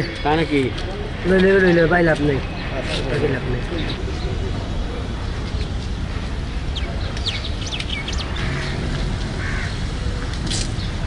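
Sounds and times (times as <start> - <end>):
birds chirping: 0.0 - 11.0
steady low rumble: 1.0 - 11.0.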